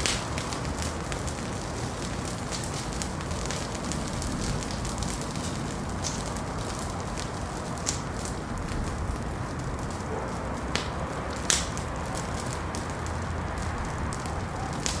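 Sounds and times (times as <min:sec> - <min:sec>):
fire crackles and pops: 0:00.0 - 0:15.0
fire rumbling in fireplace: 0:00.0 - 0:15.0.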